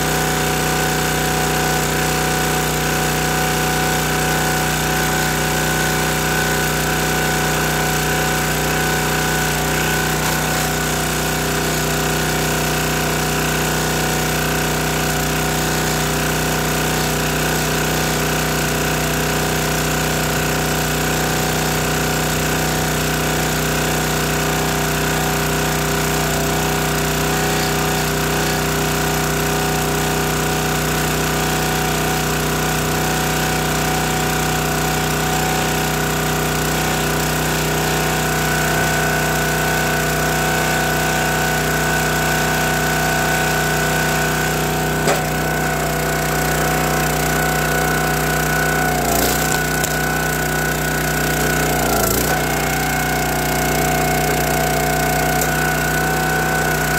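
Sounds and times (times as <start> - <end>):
log splitter engine running: 0.0 - 56.9.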